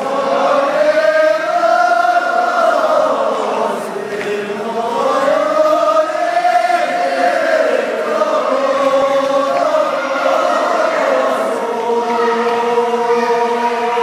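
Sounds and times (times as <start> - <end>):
men chanting together: 0.0 - 14.0.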